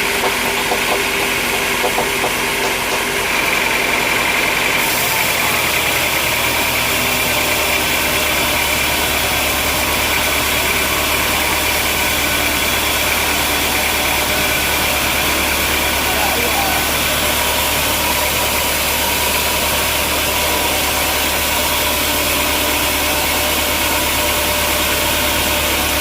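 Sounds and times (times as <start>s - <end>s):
sawmill motor drone: 0.0s - 26.0s.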